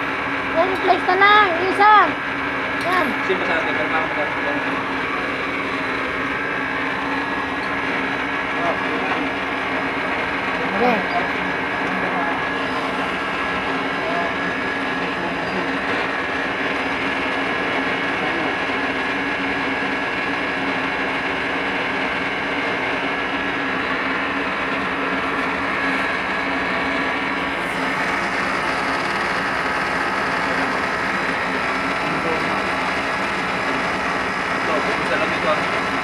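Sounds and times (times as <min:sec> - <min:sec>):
mechanical drone with hum: 0:00.0 - 0:36.0.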